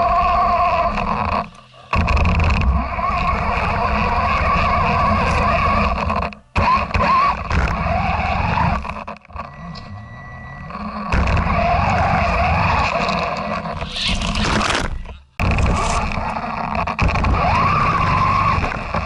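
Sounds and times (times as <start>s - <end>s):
tyres churning snow: 0.0s - 9.1s, 10.7s - 19.0s
electric motor whining: 0.0s - 19.0s.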